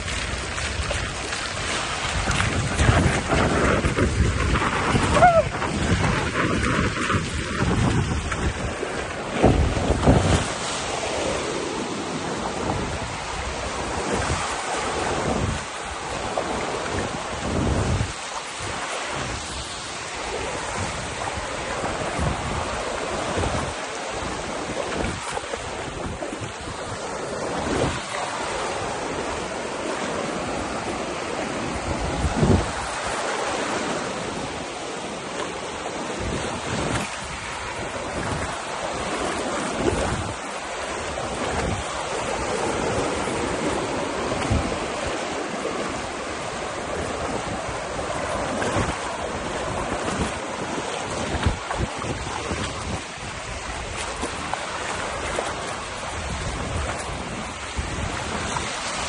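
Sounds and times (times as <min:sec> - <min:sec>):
surf waves washing over sand: 0:00.0 - 0:59.0
wind noise on microphone: 0:00.0 - 0:59.0.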